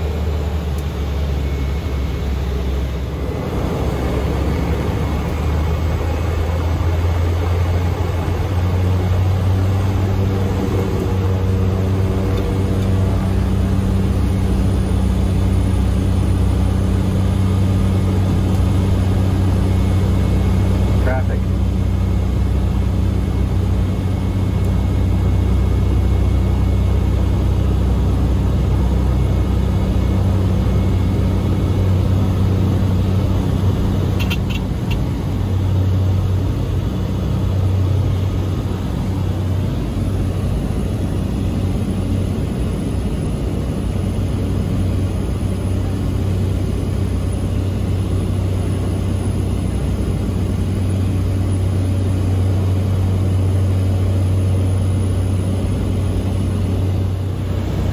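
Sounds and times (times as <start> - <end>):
propeller engine drone: 0.0 - 57.9.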